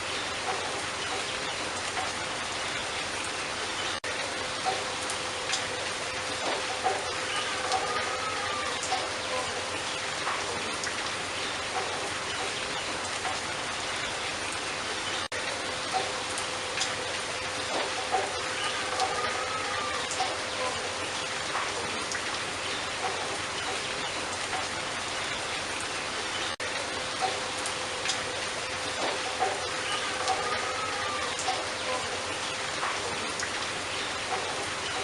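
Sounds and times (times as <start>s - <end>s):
rain hiss with pattering: 0.0s - 35.0s.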